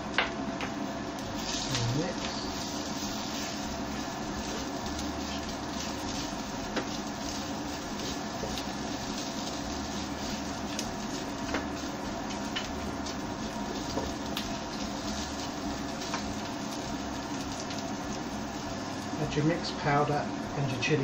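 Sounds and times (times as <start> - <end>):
paste sizzling in oil: 0.9 - 20.6
spatula stirring and scraping: 1.2 - 19.2.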